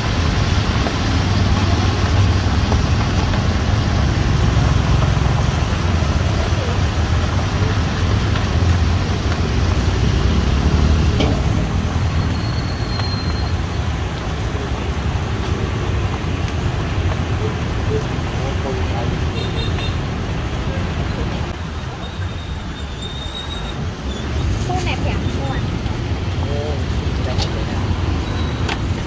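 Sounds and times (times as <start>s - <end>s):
deep-frying oil sizzling: 0.0s - 29.0s.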